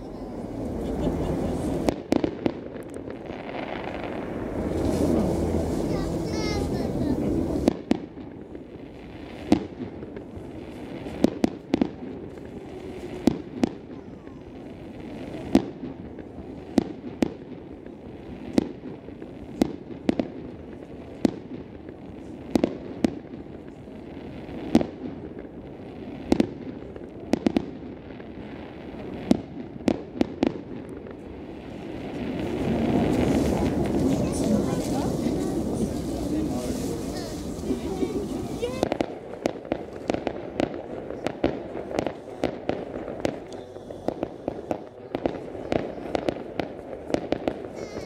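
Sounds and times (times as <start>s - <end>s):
fireworks exploding in bangs: 0.0s - 48.0s.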